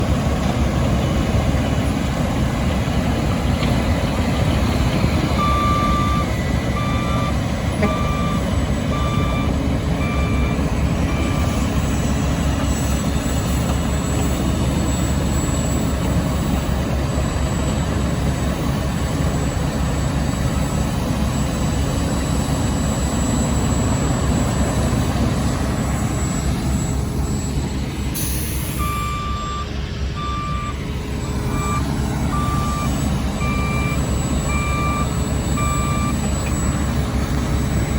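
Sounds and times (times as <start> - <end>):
heavy diesel machinery running: 0.0 - 37.9
truck reversing beeper: 0.0 - 37.9.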